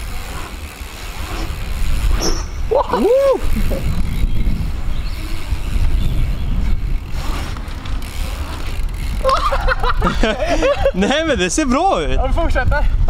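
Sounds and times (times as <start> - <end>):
bicycle tyres rolling on concrete: 0.0 - 13.0.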